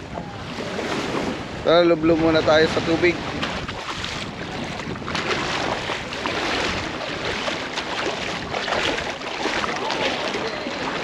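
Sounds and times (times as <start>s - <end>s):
wind on microphone: 0.0s - 11.0s
seawater sloshing and lapping: 0.2s - 11.0s.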